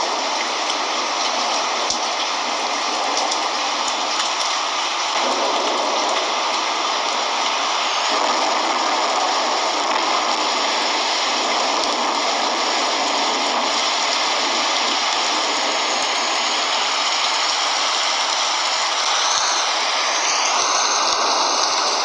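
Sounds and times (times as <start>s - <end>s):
rain falling on sea: 0.0s - 22.0s.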